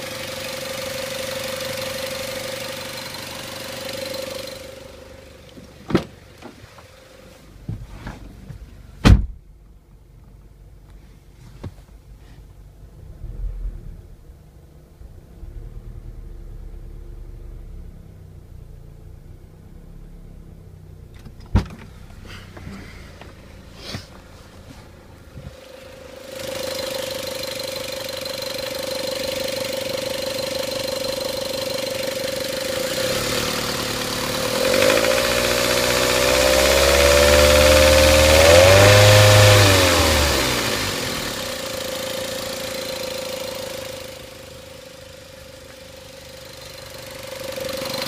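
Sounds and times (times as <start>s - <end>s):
car engine running: 0.0s - 48.0s.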